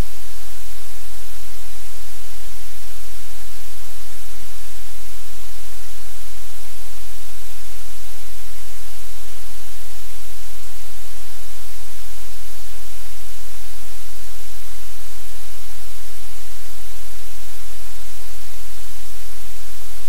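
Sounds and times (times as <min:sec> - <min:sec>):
loud static hiss: 0:00.0 - 0:20.0.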